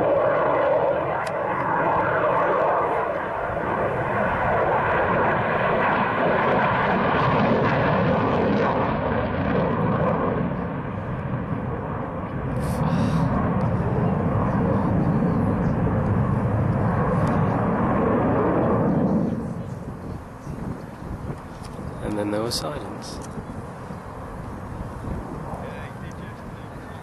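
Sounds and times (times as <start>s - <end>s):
jet engine roar with whine: 0.0s - 27.0s.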